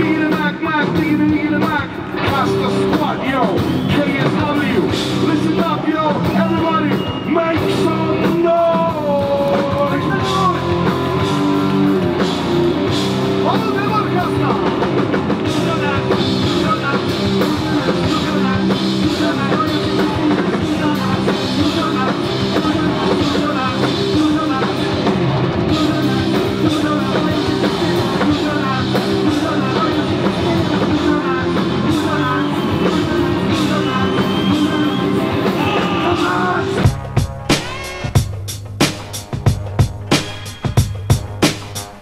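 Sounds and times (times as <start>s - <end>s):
rock music with drums and singing: 0.0s - 42.0s.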